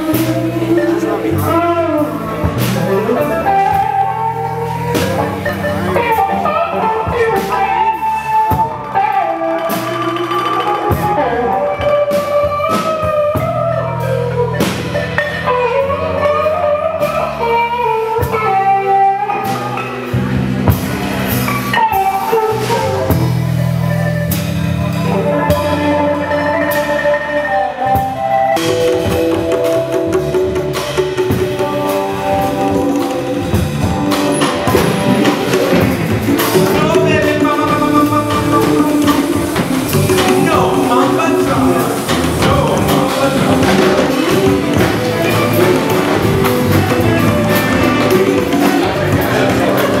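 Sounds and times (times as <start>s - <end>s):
bass: 0.0s - 50.0s
drums: 0.0s - 50.0s
electric guitar: 0.0s - 50.0s.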